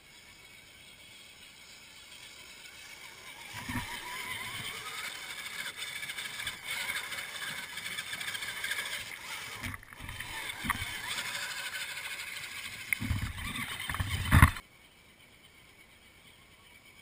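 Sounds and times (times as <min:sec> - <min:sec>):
electric motor and gears whining: 0:00.0 - 0:14.6.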